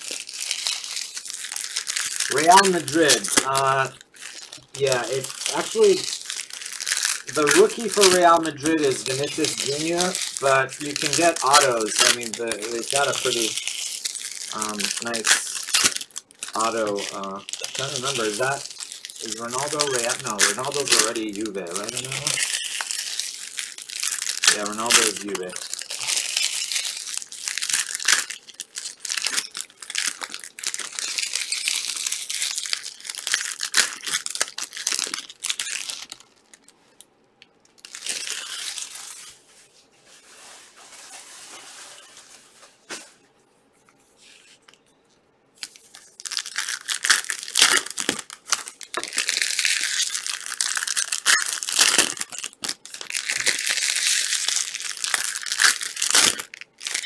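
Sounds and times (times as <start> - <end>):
packaging torn and crinkled: 0.0 - 39.5, 45.6 - 57.0.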